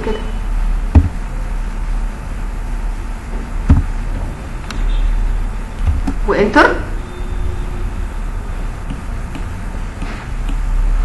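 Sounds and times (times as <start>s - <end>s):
recording hum and hiss: 0.0s - 11.0s.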